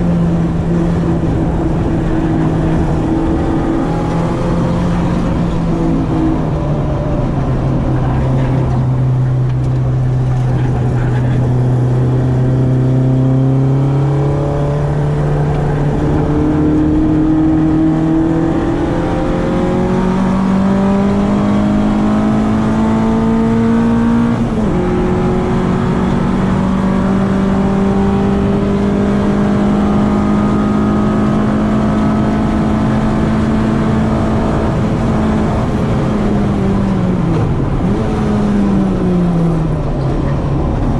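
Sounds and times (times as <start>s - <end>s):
car engine running under load: 0.0s - 40.9s.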